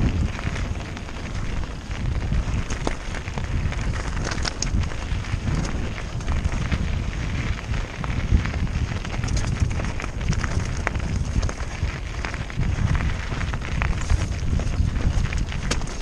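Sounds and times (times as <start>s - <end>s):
bike rattling clicks: 0.0s - 16.0s
bike tyres crunching over stones: 0.0s - 16.0s
wind rumbling on microphone: 0.0s - 16.0s.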